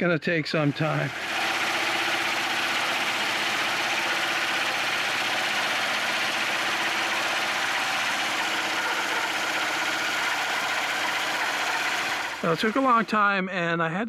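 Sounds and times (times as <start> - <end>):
band saw cutting log: 0.5 - 13.3.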